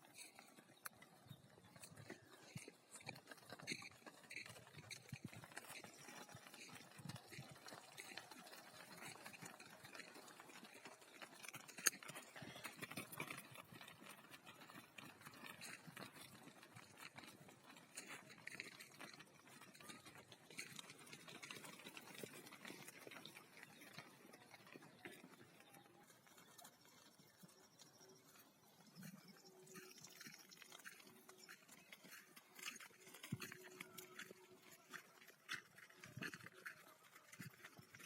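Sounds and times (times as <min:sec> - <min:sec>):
sheep hooves clicking: 0:00.0 - 0:38.0.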